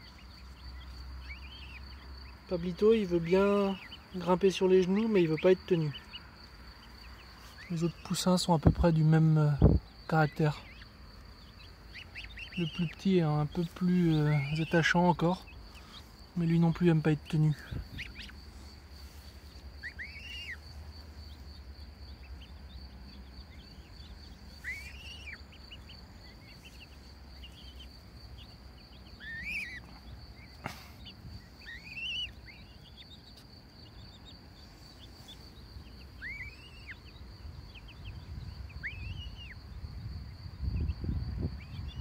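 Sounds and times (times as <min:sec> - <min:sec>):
goslings peeping: 0:00.0 - 0:42.0
high insect trill: 0:00.0 - 0:42.0.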